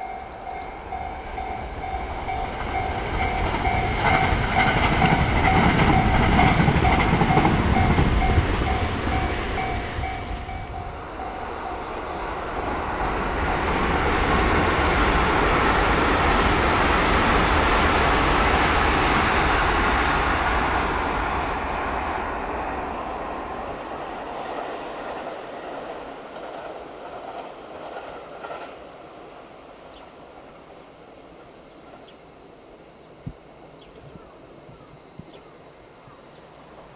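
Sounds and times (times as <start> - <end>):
electric train passing: 0.0 - 36.9.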